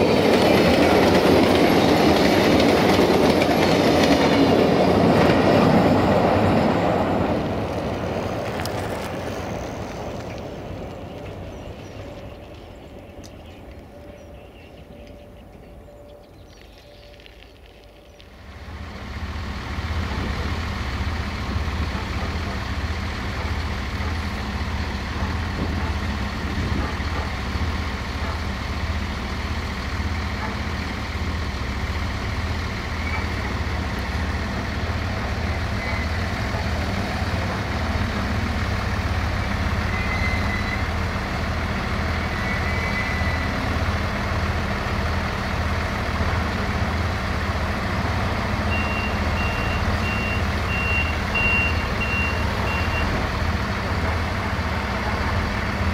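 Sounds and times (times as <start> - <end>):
diesel train engine throbbing: 0.0 - 55.9.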